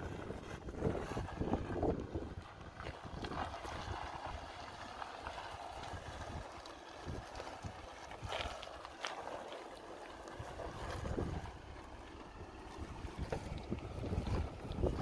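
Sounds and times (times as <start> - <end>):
low engine rumble: 0.0 - 15.0
tyres crunching over gravel: 0.0 - 15.0.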